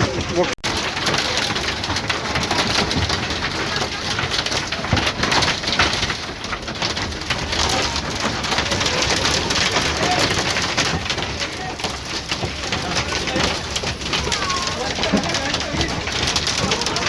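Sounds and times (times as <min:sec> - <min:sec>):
hailstones on hard surfaces: 0:00.0 - 0:17.0.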